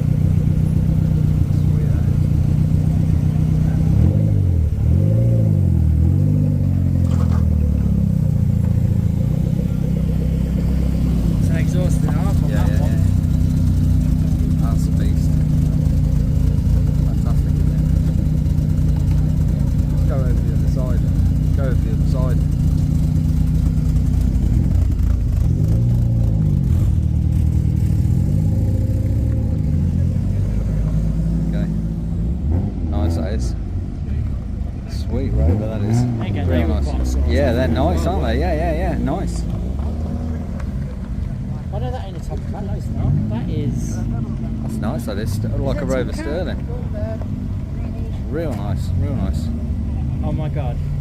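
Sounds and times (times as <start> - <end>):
car engine running: 0.0 - 51.0
engine throttle blips: 0.0 - 51.0.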